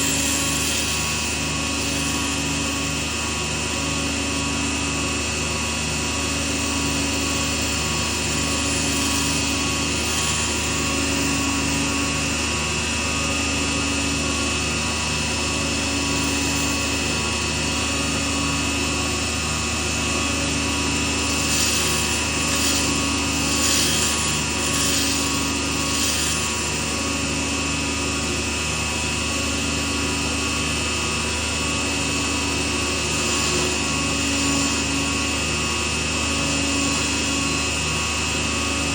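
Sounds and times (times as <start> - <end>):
small lathe humming: 0.0 - 38.9
tool scraping spinning wood: 0.0 - 38.9.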